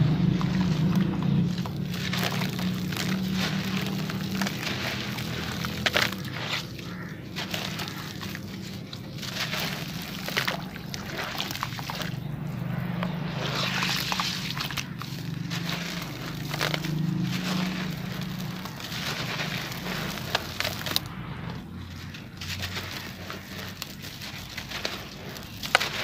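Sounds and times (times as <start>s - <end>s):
gritty crunching and crackles: 0.0s - 26.0s
water sloshing: 0.0s - 26.0s.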